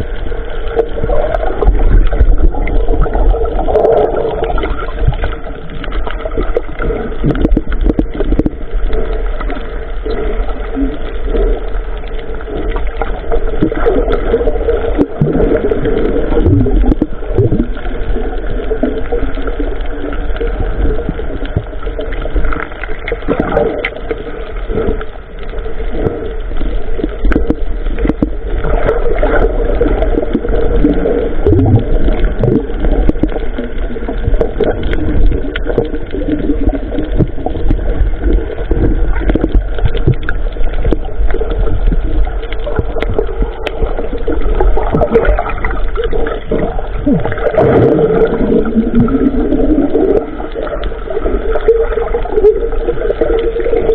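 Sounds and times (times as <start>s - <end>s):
water gurgling: 0.0s - 53.9s.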